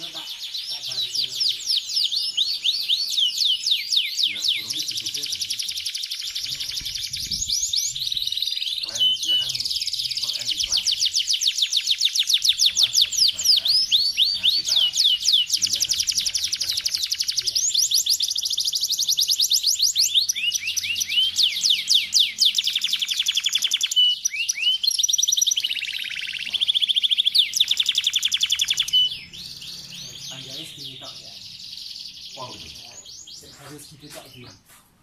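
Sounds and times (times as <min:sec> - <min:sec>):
canary singing trills: 0:00.0 - 0:34.7.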